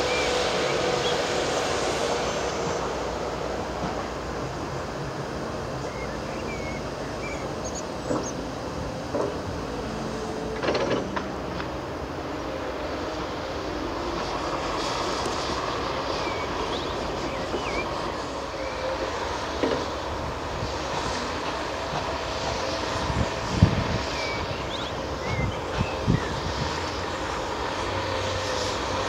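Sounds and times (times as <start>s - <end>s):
excavator digging: 0.0s - 29.0s.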